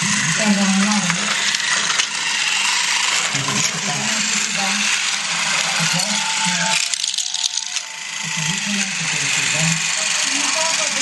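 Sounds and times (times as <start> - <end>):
toy truck motor rattling on track: 0.0 - 11.0.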